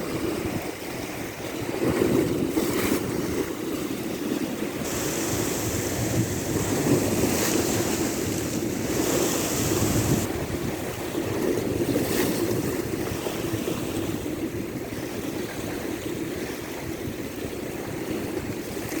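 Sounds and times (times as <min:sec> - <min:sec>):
sea waves washing in: 0:00.0 - 0:19.0
wind rumble on microphone: 0:00.0 - 0:19.0.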